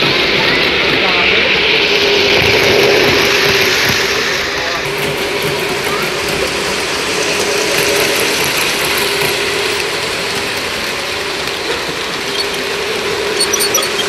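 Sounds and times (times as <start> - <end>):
model train whir and rattle: 0.0 - 14.0.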